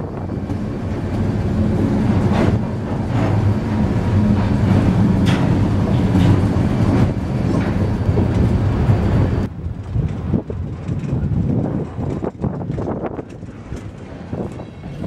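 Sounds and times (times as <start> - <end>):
diesel locomotive engine running: 0.0 - 15.0
train wheels clicking on rails: 0.0 - 15.0.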